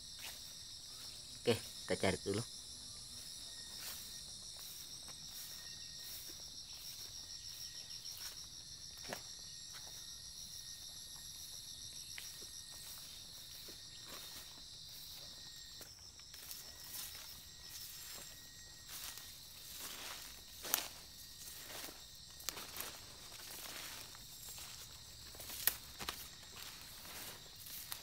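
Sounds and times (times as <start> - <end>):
footsteps through grass: 0.0 - 1.2, 3.1 - 10.1, 11.3 - 28.0
insect chorus buzzing: 0.0 - 28.0.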